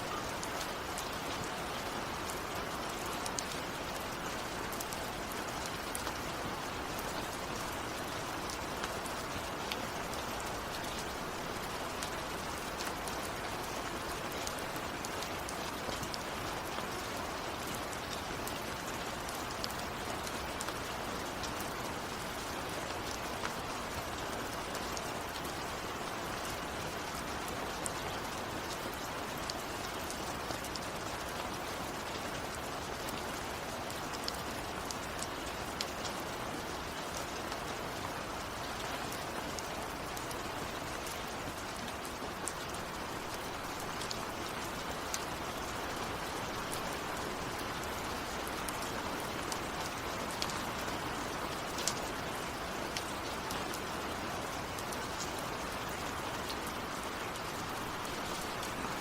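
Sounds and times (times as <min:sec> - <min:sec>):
raindrops ticking on a surface: 0:00.0 - 0:59.0
steady rain hiss: 0:00.0 - 0:59.0.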